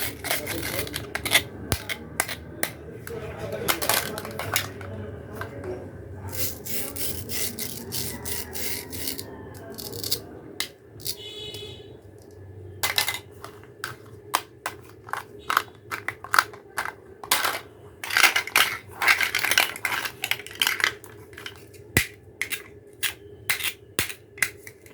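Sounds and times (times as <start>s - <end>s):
plastic toy pieces clicking: 0.0s - 4.9s, 6.3s - 11.2s, 13.8s - 24.9s.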